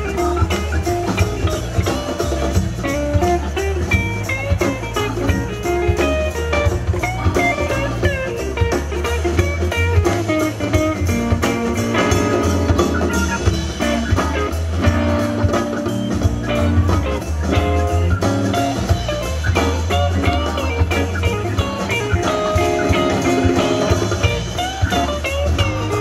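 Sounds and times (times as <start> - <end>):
bass guitar: 0.0 - 26.0
congas: 0.0 - 26.0
drum kit: 0.0 - 26.0
electric guitar lead: 0.0 - 26.0.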